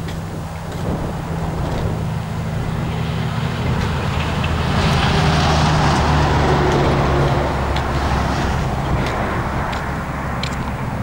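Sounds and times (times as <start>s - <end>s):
steam locomotives working hard: 0.0s - 11.0s.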